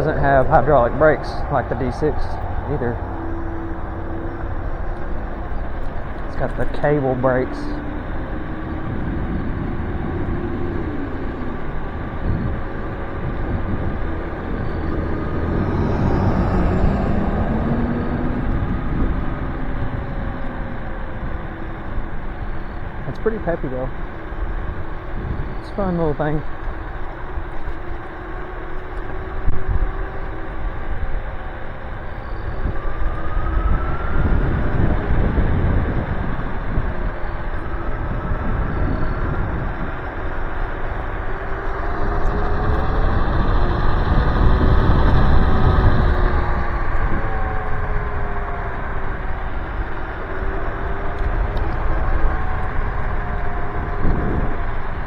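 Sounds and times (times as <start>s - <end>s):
electric motor whine: 0.0s - 55.0s
tyre road noise: 0.0s - 55.0s
wind rumble on microphone: 0.0s - 55.0s.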